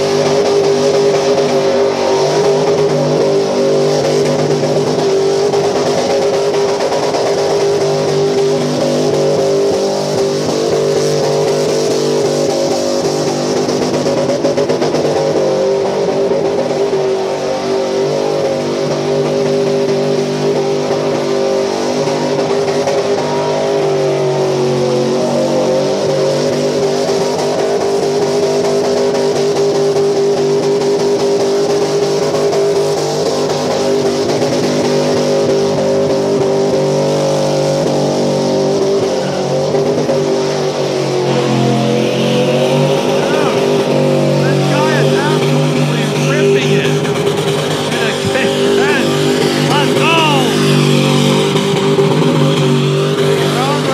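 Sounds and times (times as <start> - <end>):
pickup engine at high revs: 0.0 - 53.9
spinning tyres hissing: 0.0 - 53.9.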